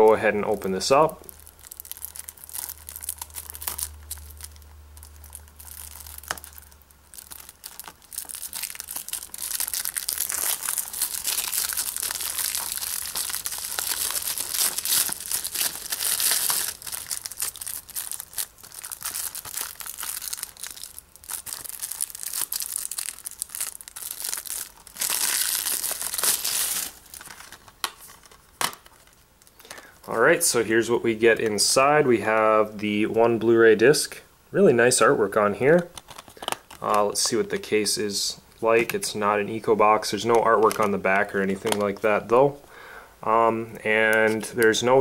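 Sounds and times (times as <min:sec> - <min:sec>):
plastic shrink-wrap crinkling: 0:00.0 - 0:32.8, 0:35.7 - 0:42.6, 0:44.0 - 0:45.0.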